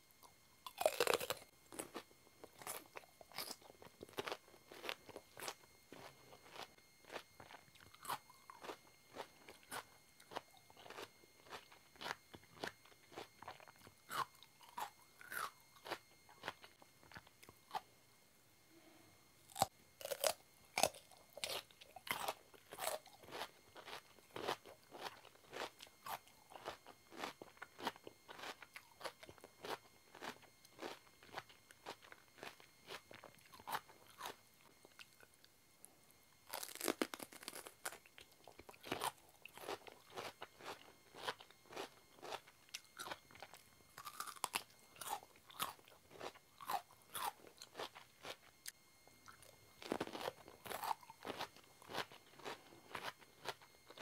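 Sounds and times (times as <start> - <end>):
cucumber crunching as chewed: 0.2 - 17.9, 19.5 - 35.3, 36.4 - 54.0.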